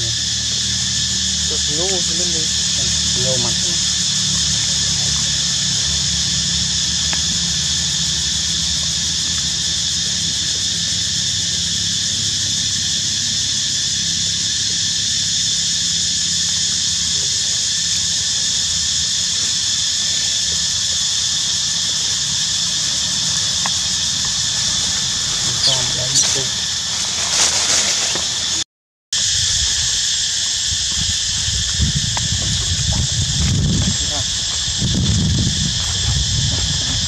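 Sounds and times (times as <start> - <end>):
insect chorus drone: 0.0 - 28.6, 29.2 - 37.0.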